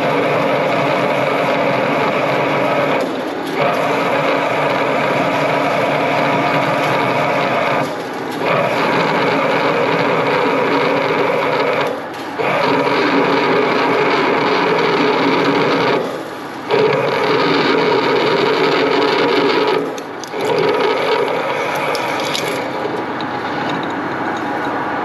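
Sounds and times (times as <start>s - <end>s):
machine tool cutting metal: 0.0s - 24.8s.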